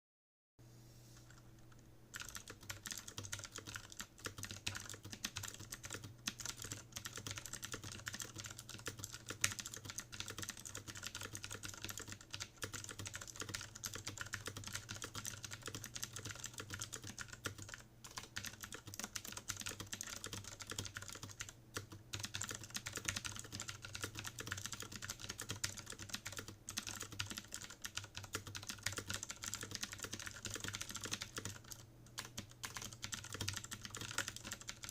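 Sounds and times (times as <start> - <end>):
typing on mechanical keyboard: 2.1 - 34.9.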